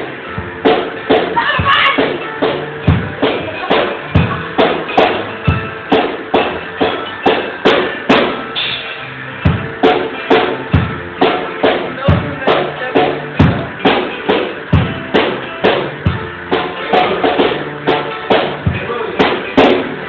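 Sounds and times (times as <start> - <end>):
drum kit beat: 0.0 - 20.0.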